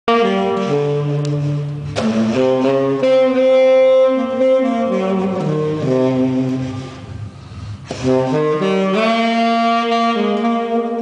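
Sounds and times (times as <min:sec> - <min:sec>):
tenor saxophone ballad melody: 0:00.1 - 0:11.0.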